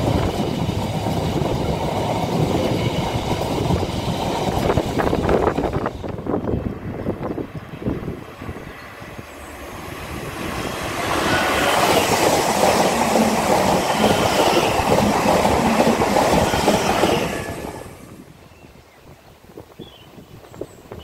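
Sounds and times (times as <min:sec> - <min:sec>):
electric train passing: 0:00.0 - 0:18.5.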